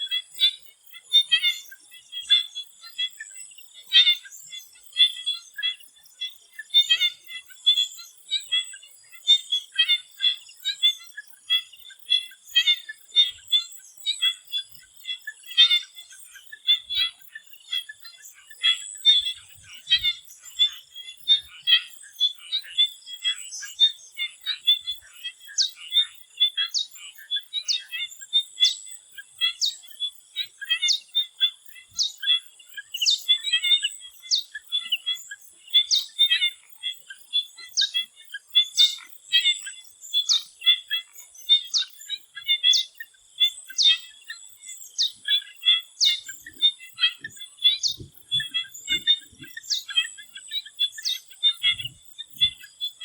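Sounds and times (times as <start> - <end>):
frogs calling: 0.0 - 53.0.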